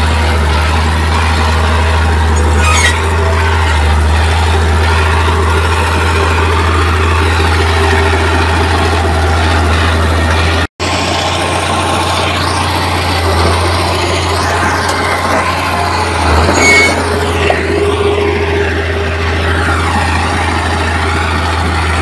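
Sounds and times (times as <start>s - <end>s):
diesel machinery droning: 0.0s - 22.0s.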